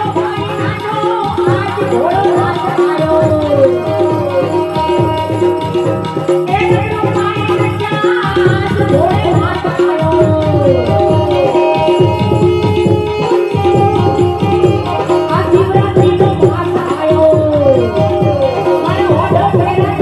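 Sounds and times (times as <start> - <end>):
harmonium note: 0.0 - 20.0
tabla playing: 0.0 - 20.0.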